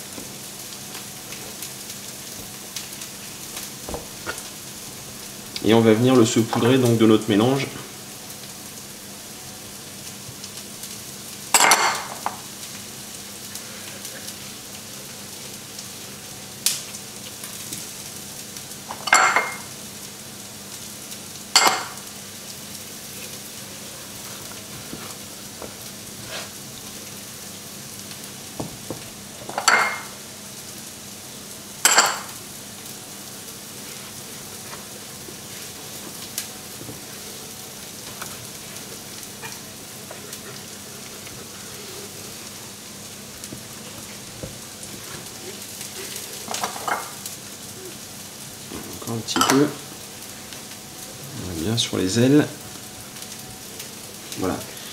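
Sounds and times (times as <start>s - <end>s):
food sizzling in a frying pan: 0.0s - 54.9s.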